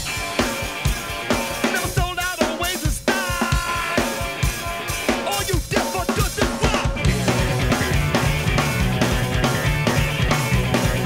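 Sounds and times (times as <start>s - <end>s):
busy drum kit: 0.0s - 11.0s
rock music: 0.0s - 11.0s.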